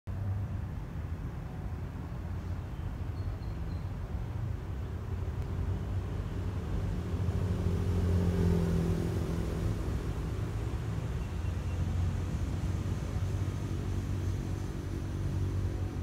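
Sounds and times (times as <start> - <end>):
distant locomotive engine rumble: 0.1 - 16.0.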